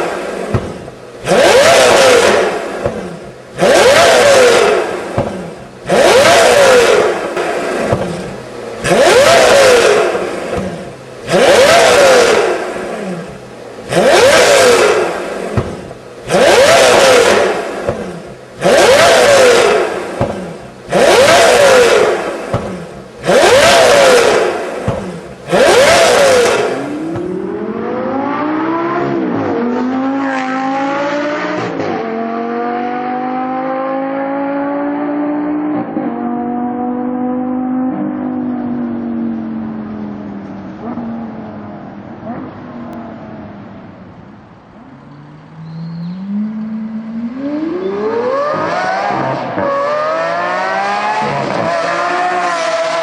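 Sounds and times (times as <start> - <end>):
sports car engine revving: 0.0 - 40.1, 44.7 - 53.0.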